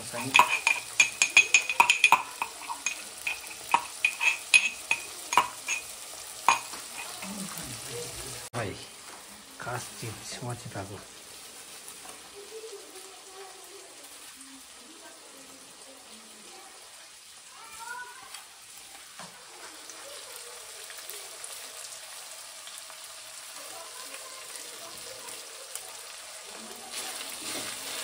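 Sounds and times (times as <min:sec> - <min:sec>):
chicken sizzling in a wok: 0:00.0 - 0:28.0.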